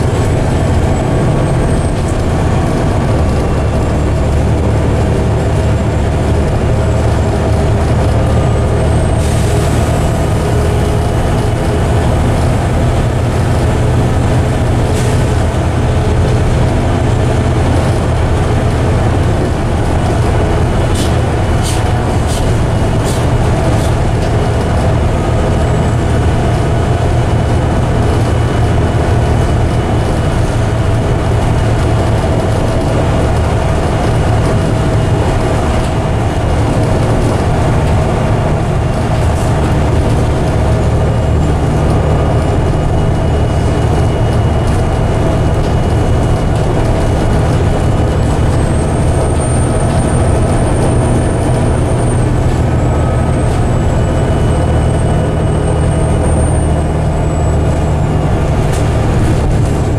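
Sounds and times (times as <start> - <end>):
bus diesel engine running: 0.0 - 59.9
high whine: 0.0 - 59.9.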